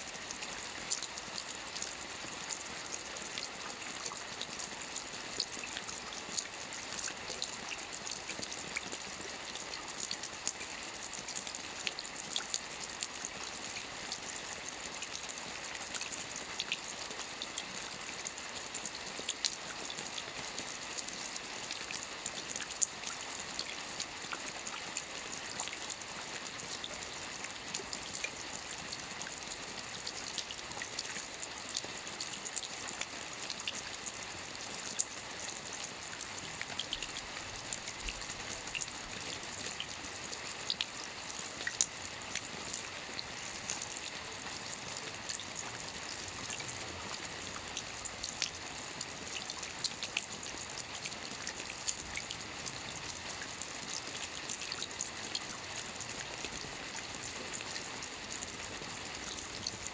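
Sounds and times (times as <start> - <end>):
rain falling: 0.1 - 59.9.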